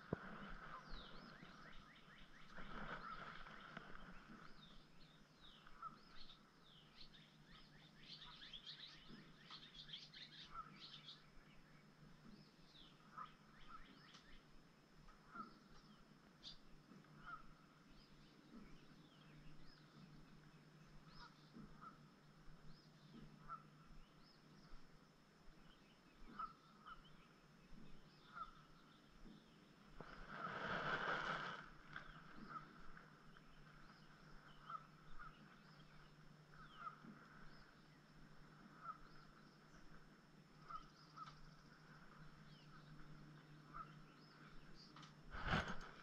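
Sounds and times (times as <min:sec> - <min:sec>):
low steady hum: 0:00.0 - 0:46.0
faint bird chirps: 0:00.3 - 0:14.5, 0:15.2 - 0:30.4, 0:31.8 - 0:46.0.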